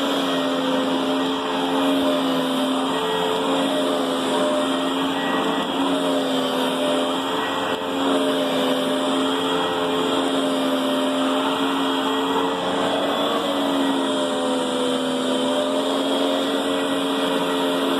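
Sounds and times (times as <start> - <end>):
upright vacuum cleaner running: 0.0 - 17.9.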